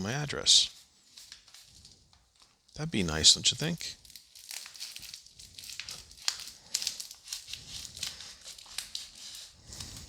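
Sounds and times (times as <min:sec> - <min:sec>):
envelope crinkling and rustling: 0:00.8 - 0:02.8, 0:03.6 - 0:10.0.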